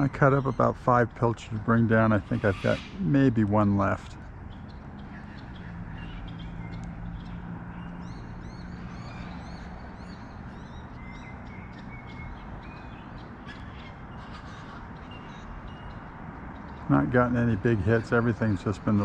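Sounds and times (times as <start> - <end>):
birds chirping: 0.0 - 19.0
outdoor background noise: 0.0 - 19.0.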